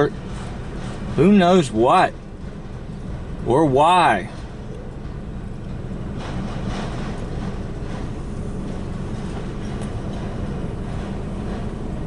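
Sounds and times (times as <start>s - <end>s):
train wheels rolling on rails: 0.0s - 12.0s.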